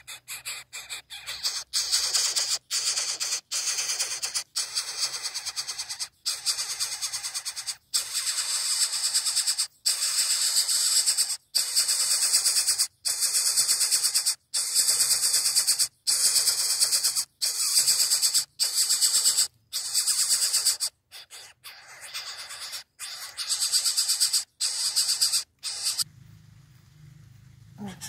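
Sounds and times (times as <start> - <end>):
bird chick hissing begging calls: 0.0 - 26.1.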